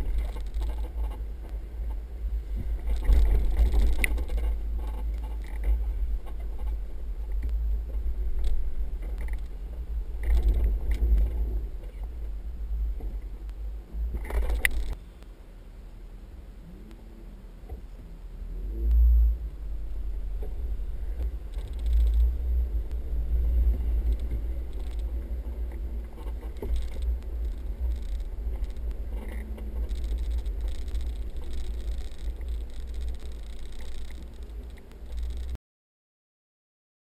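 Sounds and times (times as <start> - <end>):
off-road vehicle rumble: 0.0 - 35.6.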